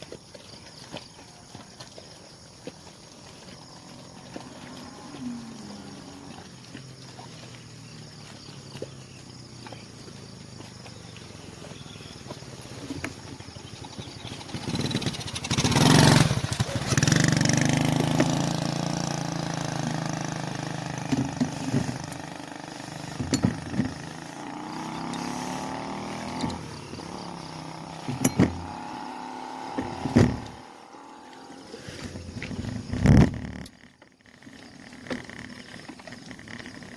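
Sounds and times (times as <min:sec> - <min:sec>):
vehicle engine passing by: 0:03.3 - 0:33.2.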